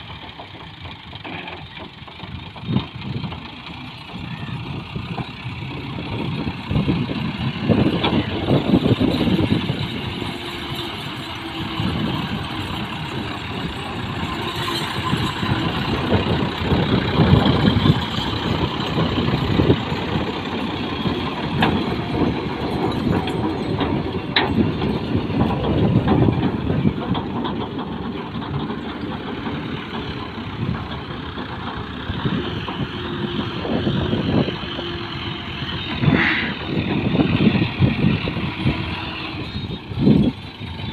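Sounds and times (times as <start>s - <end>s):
sharp knocks and rattles: 0.0s - 36.0s
tractor engine running: 0.0s - 40.9s.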